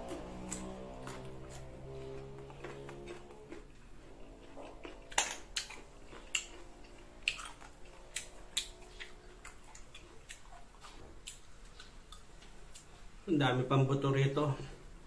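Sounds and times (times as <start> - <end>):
crunchy chewing: 0.0 - 13.2.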